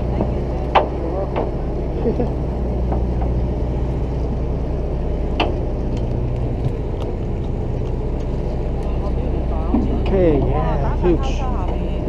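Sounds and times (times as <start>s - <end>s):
boat engine droning: 0.0s - 12.0s
deck and water noise: 0.0s - 12.0s.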